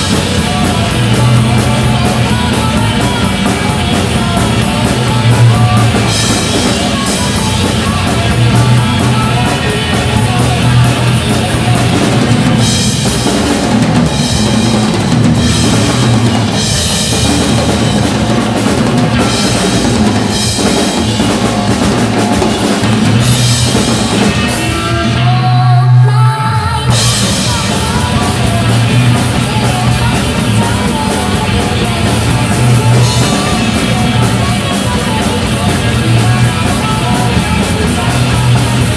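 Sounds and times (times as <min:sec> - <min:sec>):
drum kit playing rock groove: 0:00.0 - 0:26.2, 0:26.8 - 0:38.9
rock song with singing: 0:00.0 - 0:38.9.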